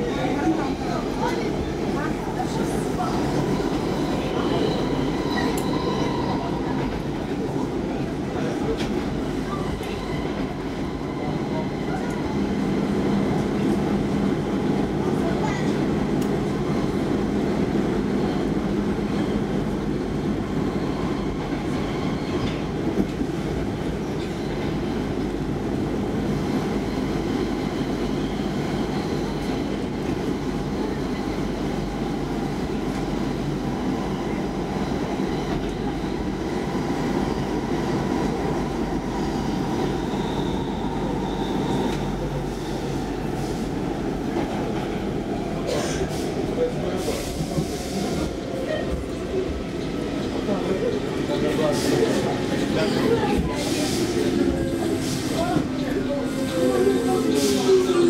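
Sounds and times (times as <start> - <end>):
metro train wheels on rail: 0.0 - 58.0.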